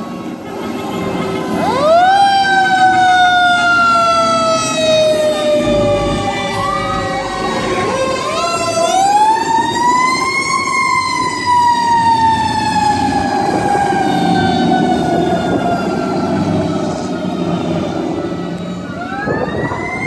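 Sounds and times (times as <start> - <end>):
fire truck siren wailing: 0.0 - 20.0
heavy truck engines and tyres: 0.0 - 20.0.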